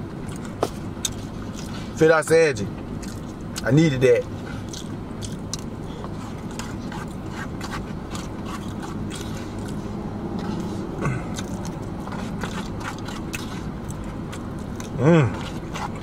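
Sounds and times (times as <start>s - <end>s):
chewing and wet mouth smacks: 0.2s - 1.9s, 2.9s - 3.7s, 4.5s - 16.0s.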